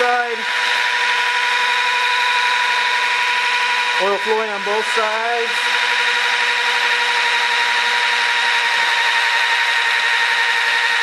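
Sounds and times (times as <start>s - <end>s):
electric drill whining: 0.0s - 11.0s.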